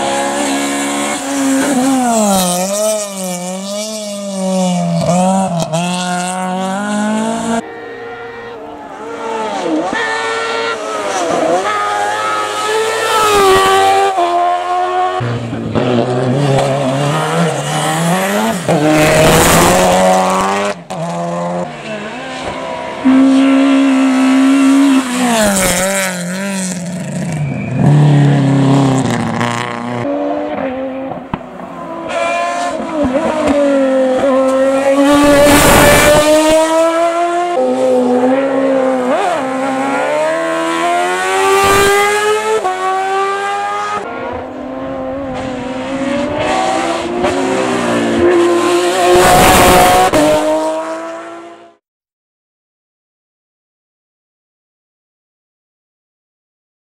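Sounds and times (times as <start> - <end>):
race car engines revving: 0.0 - 51.8.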